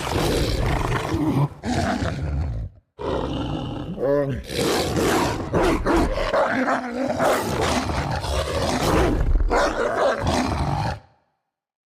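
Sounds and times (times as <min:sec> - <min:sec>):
beast-like growling vocalising: 0:00.0 - 0:11.0.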